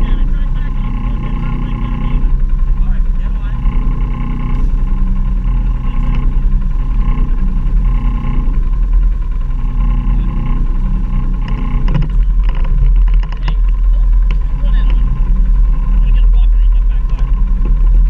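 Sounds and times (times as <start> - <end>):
atv engine running: 0.0 - 18.0
knocks and rattles: 0.0 - 18.0.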